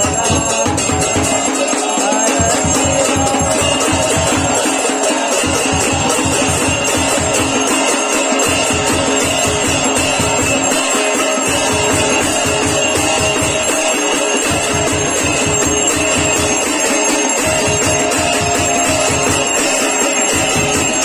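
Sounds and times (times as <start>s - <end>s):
gongs and bells struck rapidly: 0.0s - 21.0s
steady drum beat: 0.0s - 21.0s.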